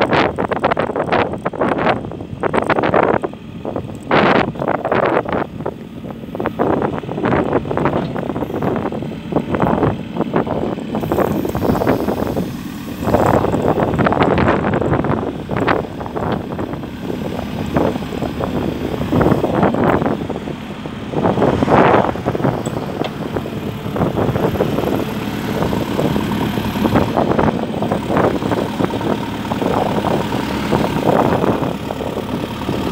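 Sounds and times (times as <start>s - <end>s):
diesel engine idling: 0.0s - 32.9s
wind buffeting microphone: 0.0s - 32.9s.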